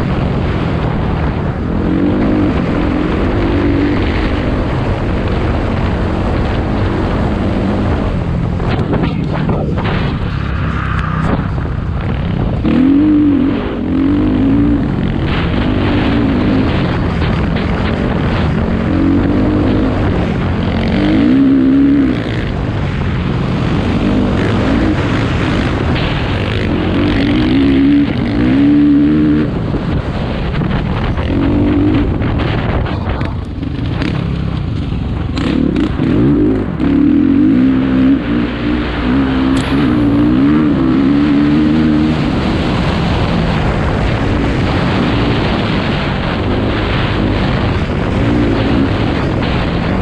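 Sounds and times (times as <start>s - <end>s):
dirt bike engine revving: 0.0s - 50.0s
steady rushing noise: 0.0s - 50.0s.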